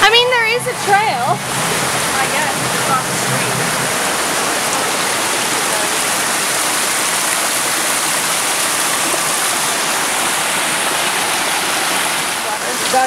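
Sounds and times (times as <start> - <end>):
stream splashing over rocks: 0.0 - 13.0.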